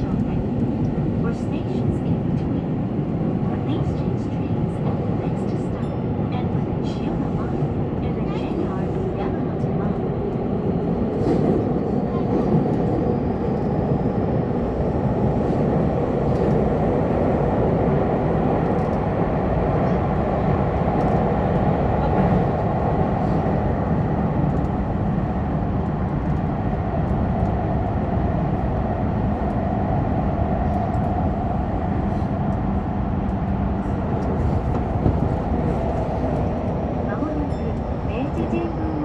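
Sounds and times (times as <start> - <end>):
subway train wheels rumbling: 0.0 - 39.0.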